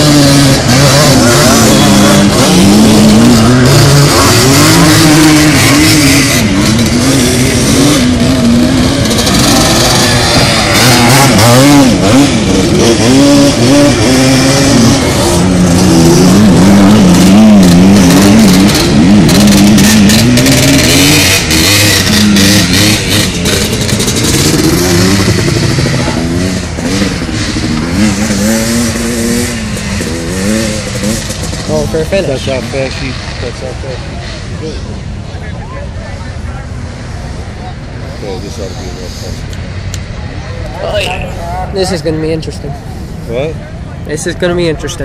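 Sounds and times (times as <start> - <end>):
off-road engines revving: 0.0 - 45.0
sharp engine crackles: 0.0 - 45.0.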